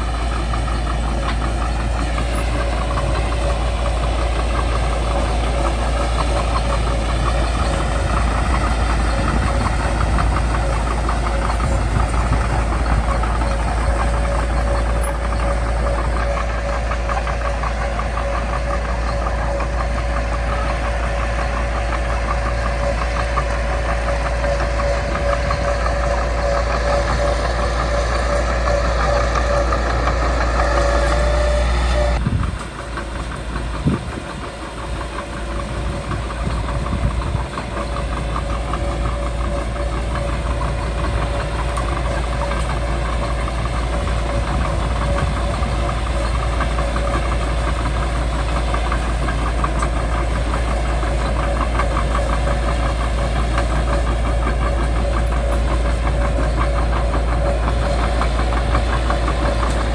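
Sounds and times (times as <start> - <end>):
bulldozer diesel engine running: 0.0 - 59.9
steady whine: 0.0 - 59.9.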